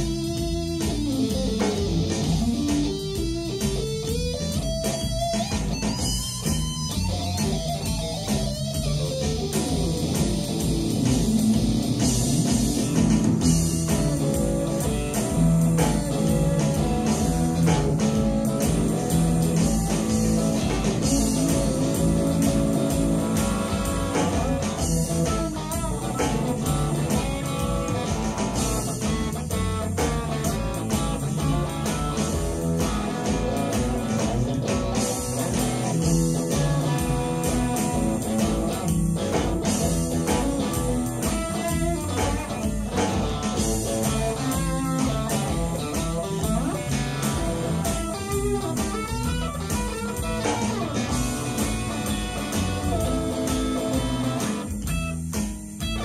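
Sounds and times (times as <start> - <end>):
blues band playing: 0.0 - 56.0.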